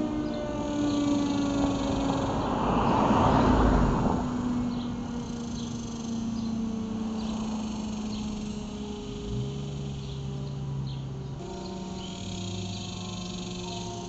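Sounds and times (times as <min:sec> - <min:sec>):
vehicle passing: 0:00.0 - 0:14.0
warning sirens winding down: 0:00.0 - 0:14.0.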